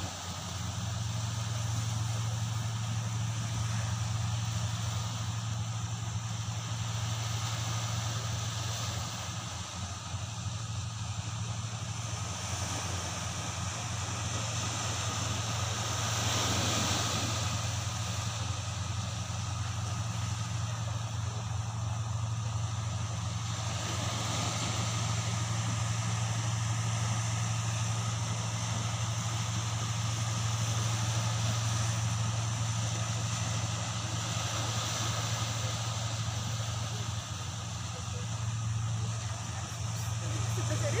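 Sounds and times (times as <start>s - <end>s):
engine droning steadily: 0.0s - 41.0s.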